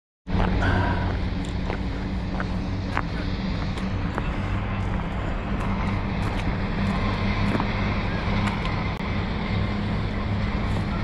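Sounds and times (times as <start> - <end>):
engine droning: 0.3 - 11.0.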